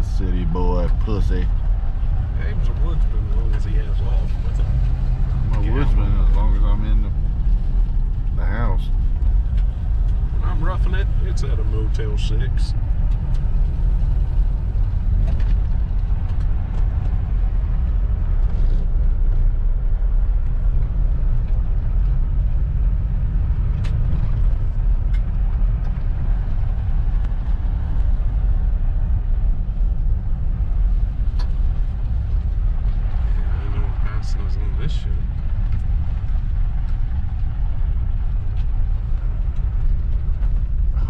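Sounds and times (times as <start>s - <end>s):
road rumble inside vehicle: 0.0s - 41.0s.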